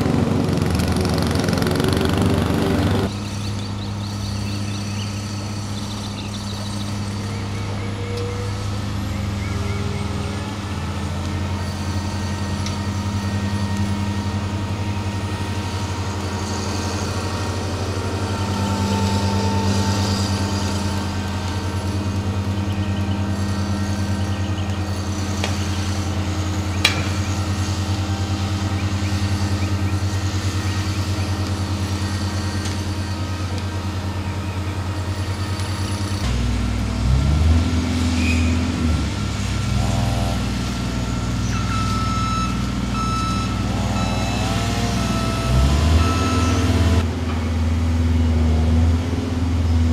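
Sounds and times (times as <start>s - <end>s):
crane engine droning: 0.0s - 49.9s.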